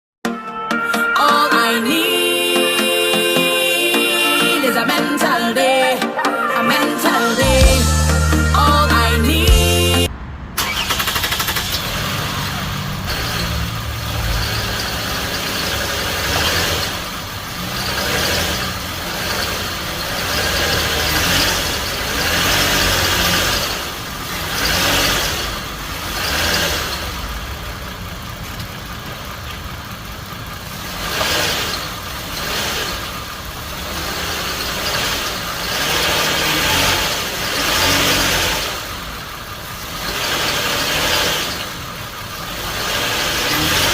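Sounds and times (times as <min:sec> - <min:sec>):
car engine idling: 0:03.7 - 0:43.9.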